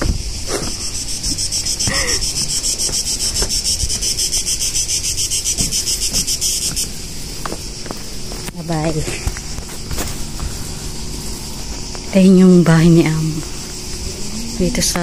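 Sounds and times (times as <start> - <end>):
pulsing insect chorus: 0.0 - 15.0.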